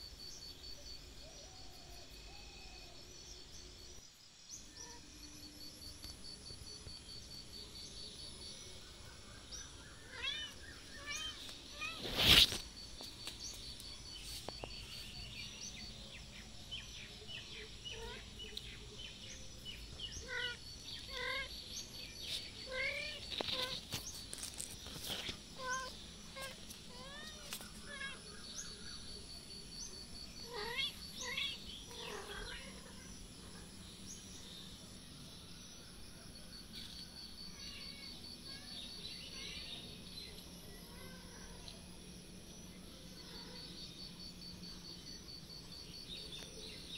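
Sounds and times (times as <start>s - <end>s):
pulsing insect chirp: 0.0s - 46.9s.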